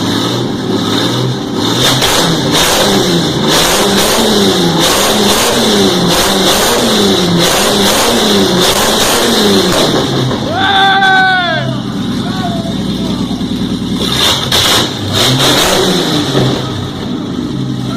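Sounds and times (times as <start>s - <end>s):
engine revving: 0.0s - 10.6s, 11.6s - 17.9s.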